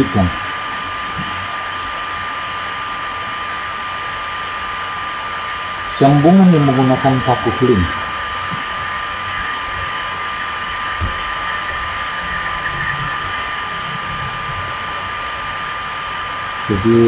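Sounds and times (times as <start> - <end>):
fan or hair dryer running: 0.0 - 17.0
thin high whine: 0.0 - 17.0.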